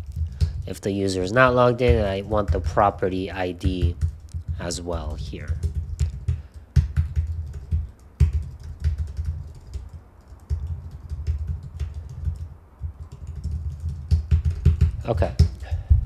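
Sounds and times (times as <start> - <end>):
typing on keyboard: 0.0 - 0.7, 1.4 - 15.9.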